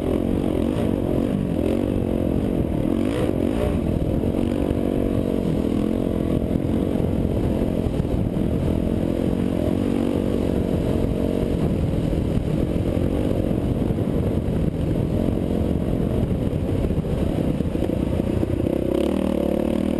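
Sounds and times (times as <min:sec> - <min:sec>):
dirt bike engine revving: 0:00.0 - 0:16.3, 0:18.3 - 0:19.9.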